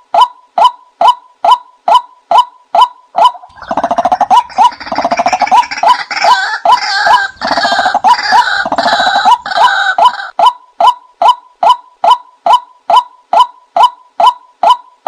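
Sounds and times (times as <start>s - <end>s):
harsh overlapping bird calls: 0.0s - 15.0s.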